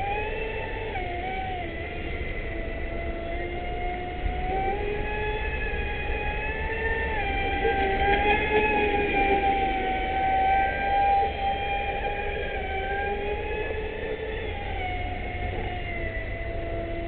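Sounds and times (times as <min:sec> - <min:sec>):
electric motor high whine: 0:00.0 - 0:17.0.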